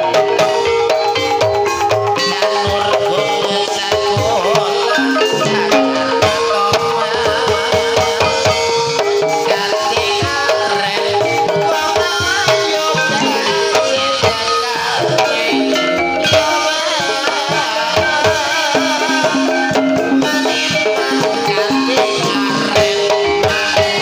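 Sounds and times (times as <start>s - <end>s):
bending melodic line: 0.0s - 24.0s
hand drums beating: 0.0s - 24.0s
ringing metallophone notes: 0.0s - 24.0s.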